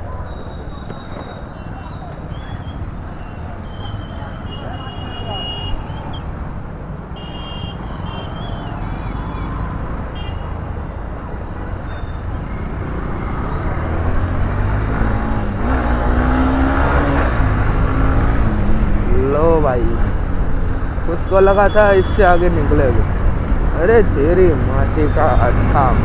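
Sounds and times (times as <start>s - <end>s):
motorcycle engine and road rumble: 0.0s - 26.0s.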